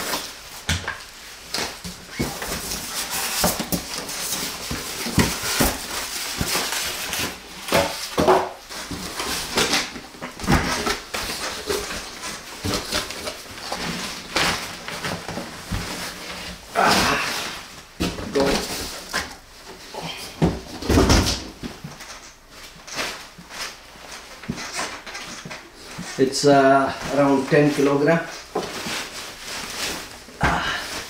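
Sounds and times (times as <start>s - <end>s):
cardboard and styrofoam scraping: 0.0s - 31.0s.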